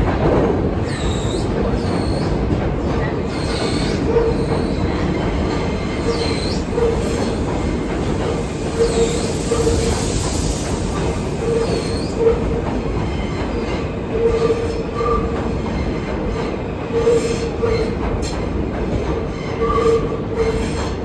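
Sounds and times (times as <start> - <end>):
rumble of train wheels on rail: 0.0 - 21.0.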